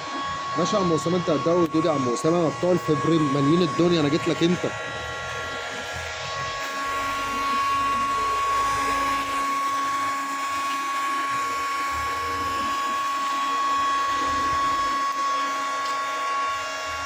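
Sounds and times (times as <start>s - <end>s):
heat gun whining and blowing air: 0.0s - 17.0s.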